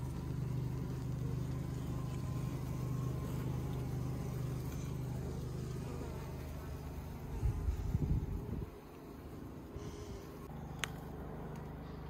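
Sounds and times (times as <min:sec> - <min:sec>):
honeybee colony buzzing: 0:00.0 - 0:11.9.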